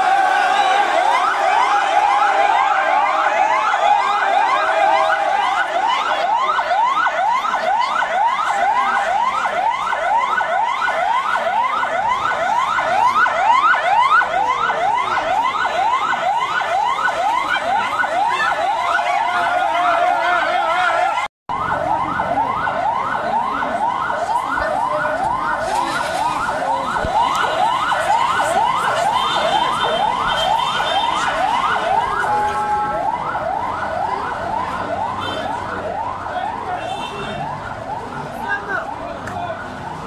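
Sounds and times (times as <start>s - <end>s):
ambulance siren yelping: 0.0s - 40.0s.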